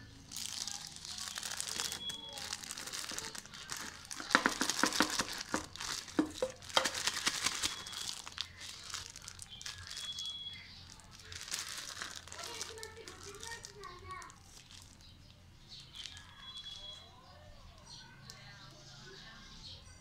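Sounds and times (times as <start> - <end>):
plastic bag crinkling: 0.2 - 17.1.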